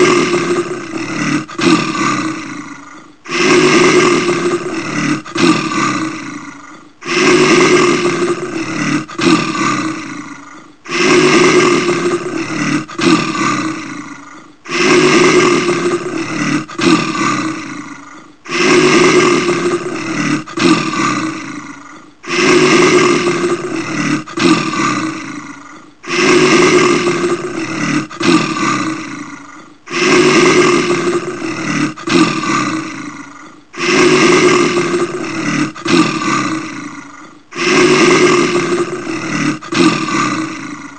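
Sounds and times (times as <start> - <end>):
bear roaring: 0.0 - 40.9.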